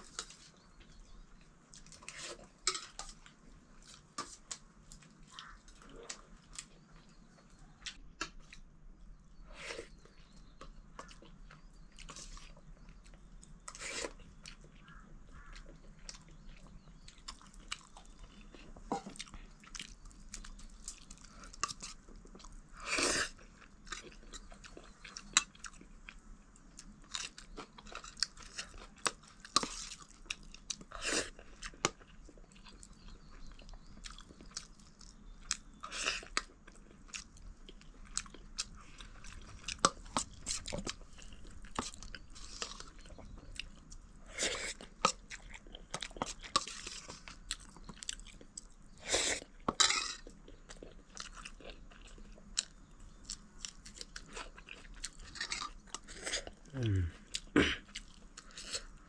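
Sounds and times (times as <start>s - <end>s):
person chewing and crunching: 9.4s - 59.0s.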